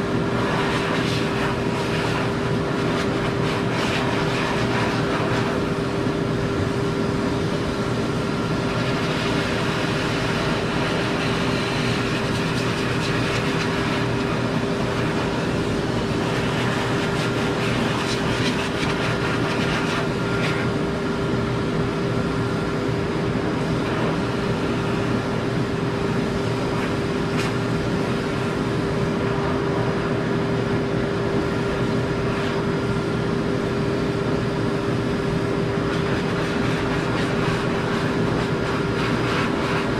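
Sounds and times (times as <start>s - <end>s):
pet dryer blowing air: 0.0s - 39.9s.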